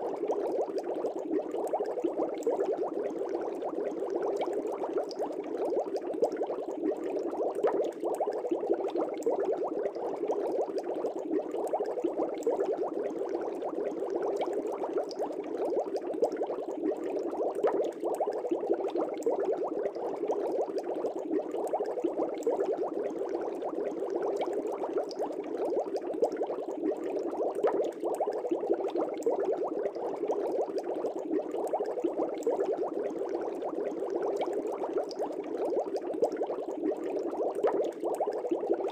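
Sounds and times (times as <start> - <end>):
aquarium bubbles: 0.0 - 38.9.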